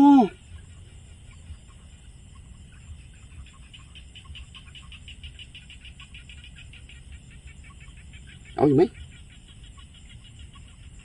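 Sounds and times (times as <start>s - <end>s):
frogs calling in pulsing trill: 0.0s - 11.0s.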